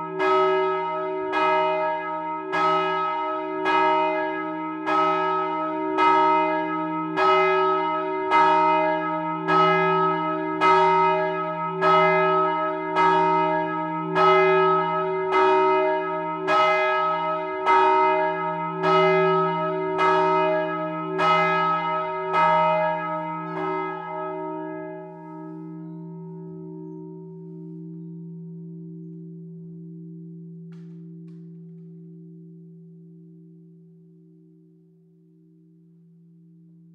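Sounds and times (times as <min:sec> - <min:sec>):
church bell ringing: 0:00.0 - 0:36.9.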